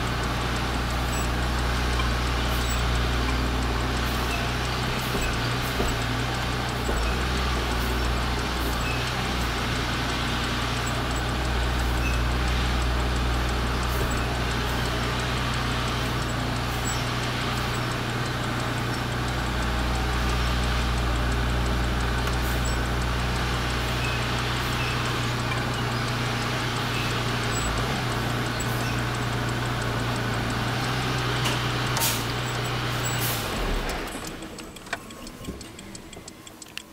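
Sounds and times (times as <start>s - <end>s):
sharp click: 0.0s - 36.9s
truck diesel engine running: 0.0s - 36.9s.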